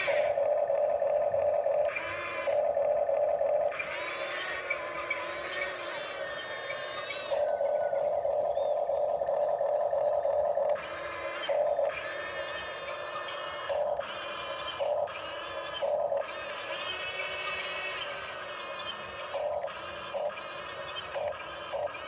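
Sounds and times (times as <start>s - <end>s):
toy excavator motors whining: 0.0s - 22.0s.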